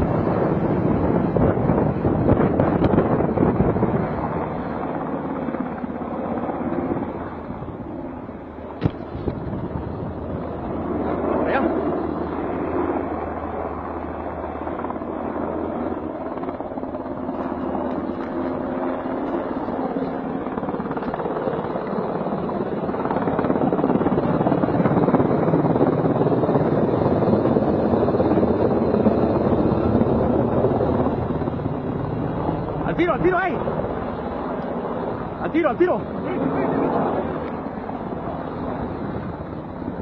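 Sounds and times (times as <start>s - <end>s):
helicopter rotor and engine drone: 0.0s - 40.0s.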